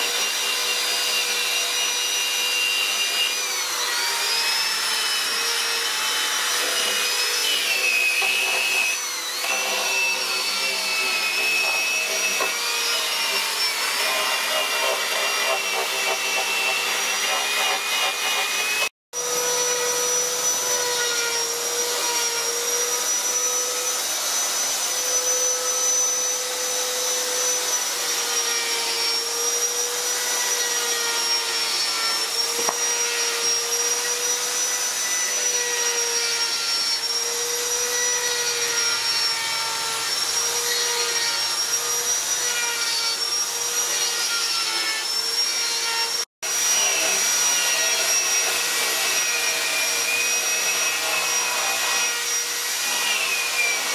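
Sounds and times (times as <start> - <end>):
electric grinder on wood: 0.0 - 53.9.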